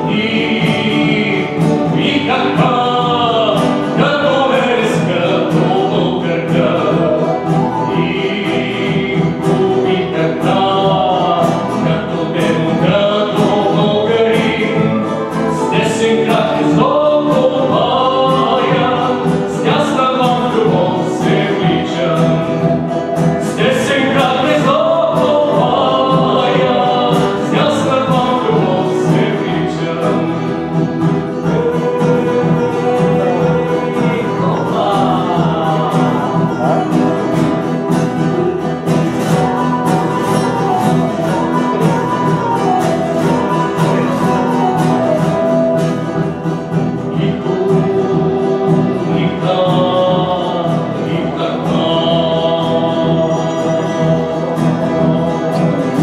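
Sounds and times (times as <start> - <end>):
classical guitar strumming: 0.0 - 56.0
man singing: 0.0 - 56.0.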